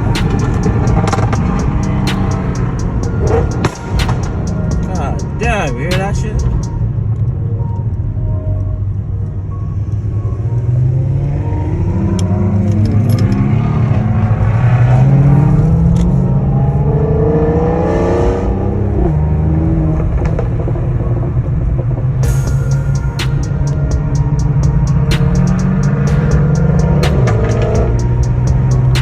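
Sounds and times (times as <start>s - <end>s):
car engine accelerating hard: 0.0s - 6.8s, 10.7s - 29.0s.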